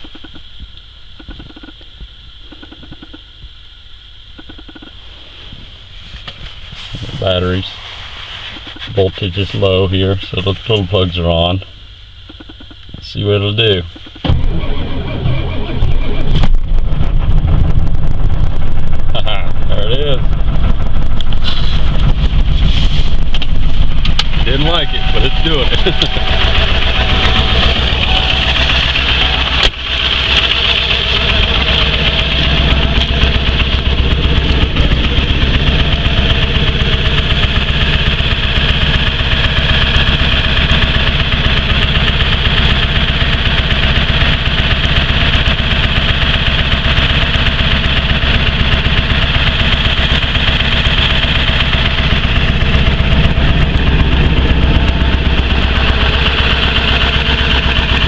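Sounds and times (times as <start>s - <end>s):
diesel truck engine idling: 4.0s - 58.0s.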